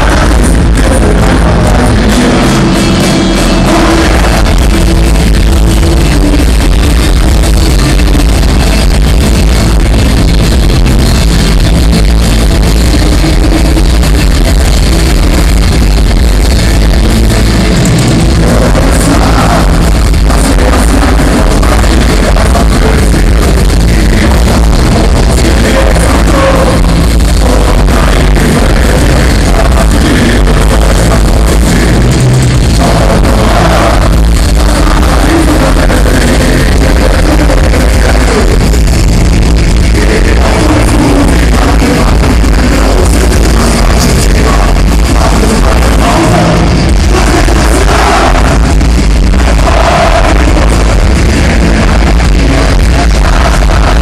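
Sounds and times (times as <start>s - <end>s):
live rock band music: 0.0s - 54.0s.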